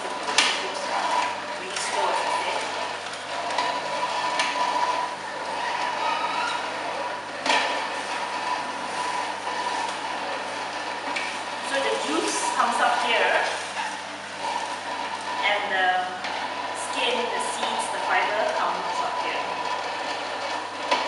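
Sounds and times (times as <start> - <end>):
juicer motor humming: 0.0 - 21.0.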